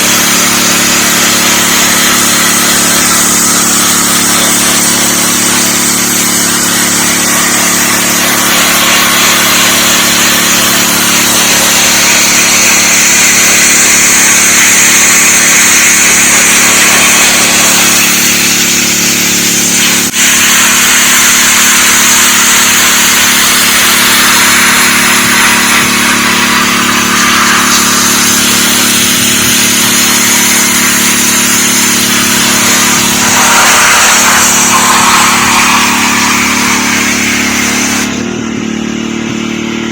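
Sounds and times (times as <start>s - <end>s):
high-pressure water jet hissing: 0.0s - 38.4s
pressure washer engine hum: 0.0s - 39.9s.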